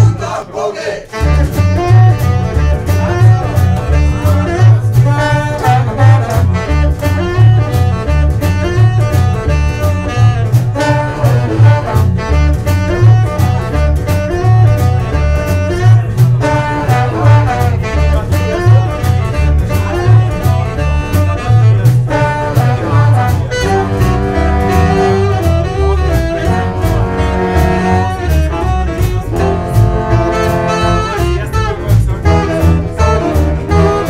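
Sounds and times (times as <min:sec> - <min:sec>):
jump-blues band playing: 0:00.0 - 0:34.0
upright bass walking line: 0:00.0 - 0:34.0
saxophones: 0:01.1 - 0:34.0.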